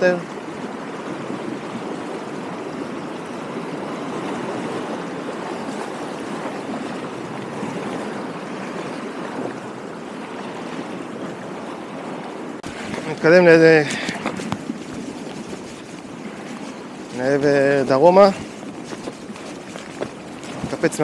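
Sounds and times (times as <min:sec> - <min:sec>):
lake waves lapping on shore: 0:00.0 - 0:21.0.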